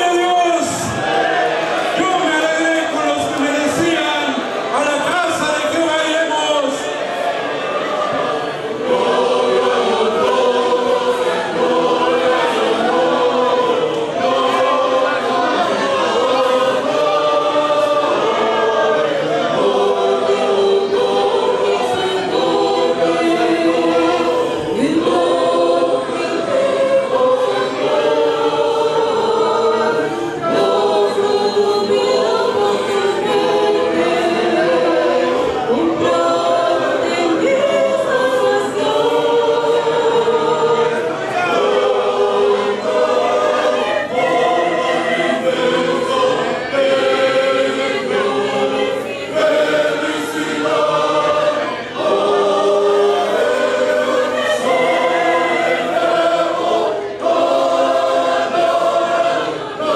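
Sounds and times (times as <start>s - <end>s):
church choir singing a hymn: 0.0s - 59.9s.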